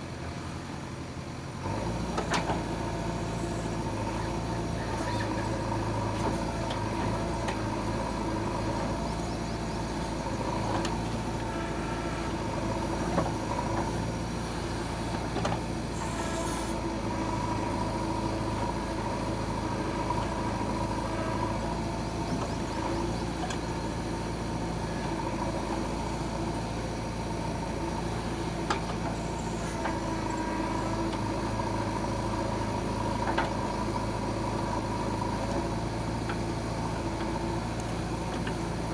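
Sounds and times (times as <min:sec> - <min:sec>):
backhoe engine running: 0:00.0 - 0:38.9
constant whine: 0:00.0 - 0:38.9.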